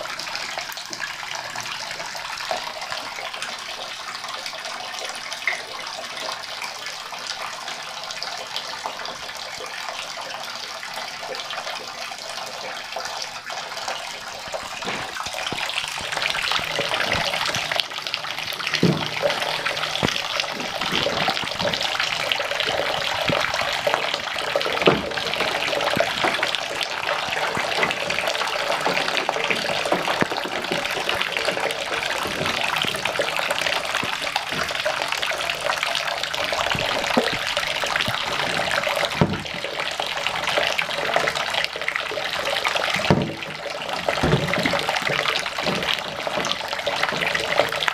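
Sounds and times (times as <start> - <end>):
water running into bathtub: 0.0 - 47.9.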